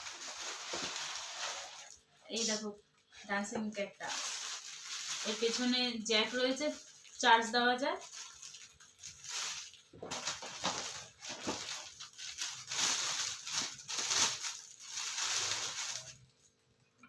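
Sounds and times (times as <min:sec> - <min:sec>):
toy rustling and crackling: 0:00.0 - 0:03.1, 0:04.0 - 0:16.8.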